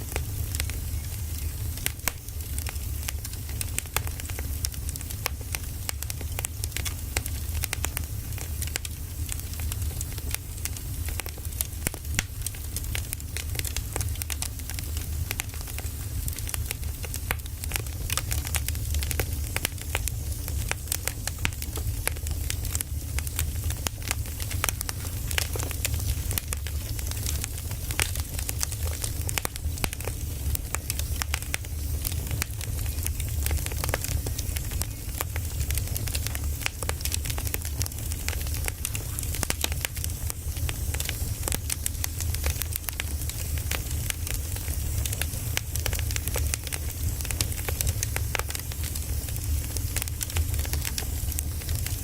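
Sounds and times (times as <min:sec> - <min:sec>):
firewood crackling and popping: 0:00.0 - 0:52.0.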